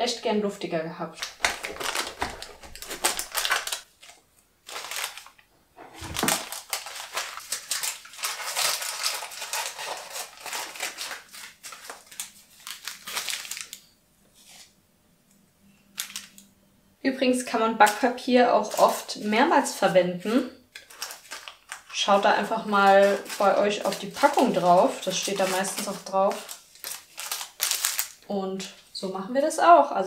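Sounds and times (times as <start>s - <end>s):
baking paper crinkling: 1.1s - 14.8s, 15.9s - 16.4s, 17.8s - 29.6s.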